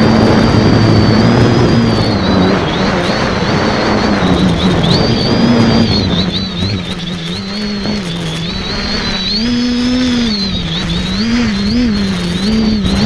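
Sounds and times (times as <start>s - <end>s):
drone motors and propellers whining: 0.0s - 13.0s
wind noise on microphone: 0.0s - 13.0s.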